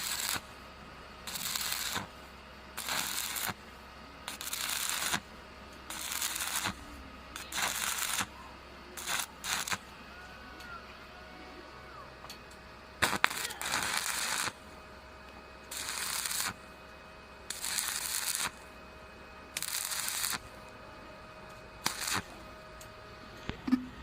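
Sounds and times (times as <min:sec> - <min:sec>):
arc welding crackling: 0:00.0 - 0:10.0, 0:13.0 - 0:18.8, 0:19.4 - 0:20.8, 0:21.4 - 0:23.6
faint steady hum: 0:00.0 - 0:24.0.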